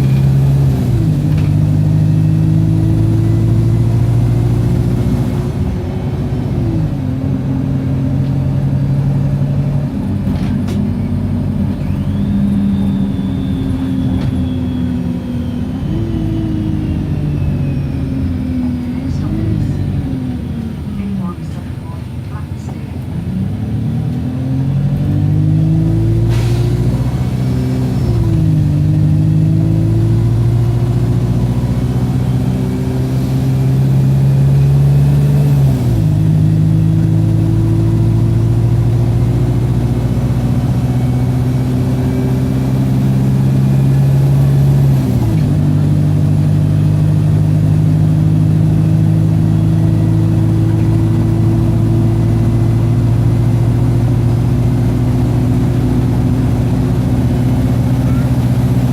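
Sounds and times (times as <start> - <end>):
bus engine pulling uphill: 0.0 - 58.9.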